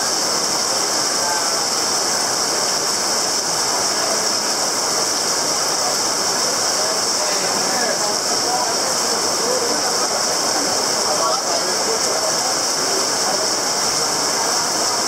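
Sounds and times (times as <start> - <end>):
heavy rain on flooded street: 0.0 - 15.0.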